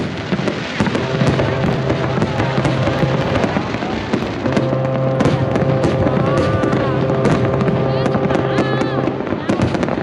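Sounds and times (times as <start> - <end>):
fireworks bursting and crackling: 0.0 - 10.0
steady held tone: 0.8 - 9.4.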